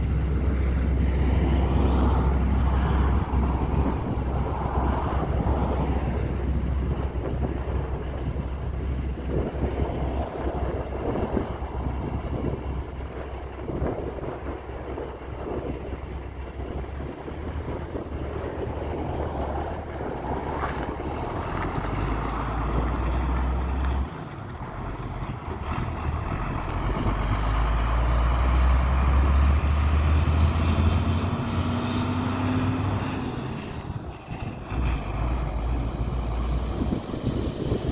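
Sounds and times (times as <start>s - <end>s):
truck engine driving off: 0.0s - 37.9s.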